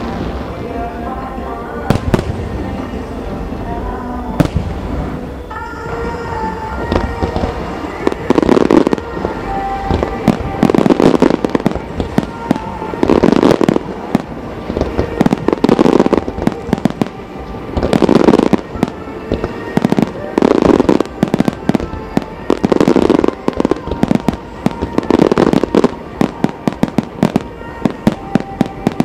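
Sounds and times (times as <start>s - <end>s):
music playing: 0.0s - 29.0s
fireworks bursting and crackling: 1.8s - 3.8s, 4.4s - 29.0s.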